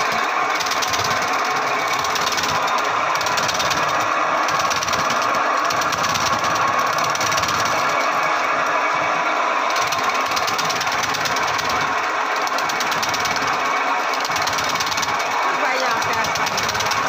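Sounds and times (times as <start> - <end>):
electric chopper shredding stem: 0.0 - 17.0.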